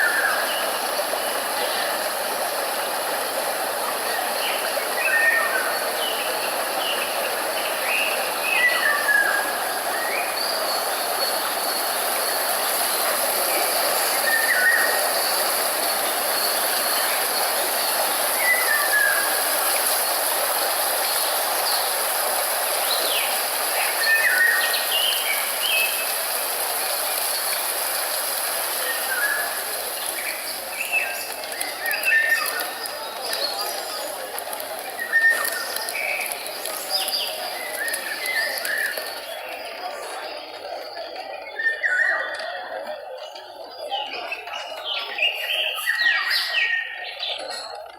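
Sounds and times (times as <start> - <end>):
steady rushing hiss: 0.0 - 41.8.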